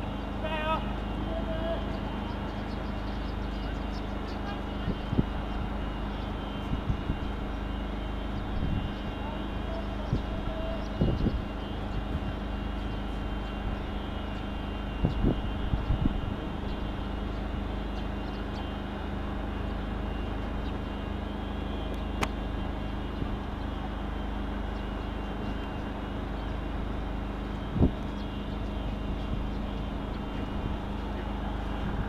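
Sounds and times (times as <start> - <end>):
outdoor rumble: 0.0 - 32.0.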